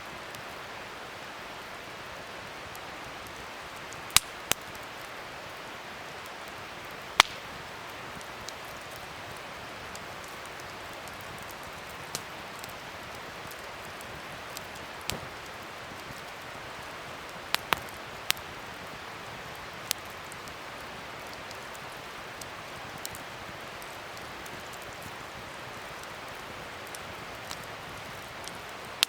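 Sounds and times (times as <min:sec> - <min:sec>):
fire crackles and pops: 0:00.0 - 0:29.0
fire hissing: 0:00.3 - 0:29.0.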